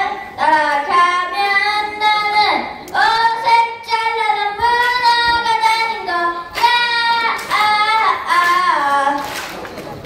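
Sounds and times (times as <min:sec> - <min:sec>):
boy singing into a microphone: 0:00.0 - 0:09.4.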